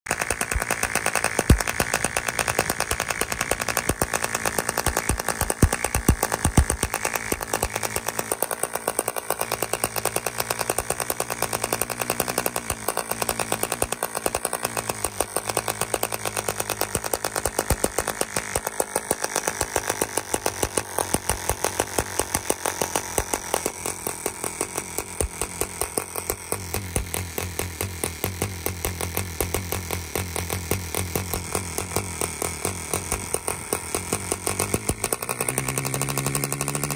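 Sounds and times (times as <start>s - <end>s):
model diesel engine buzzing: 0.0s - 36.9s.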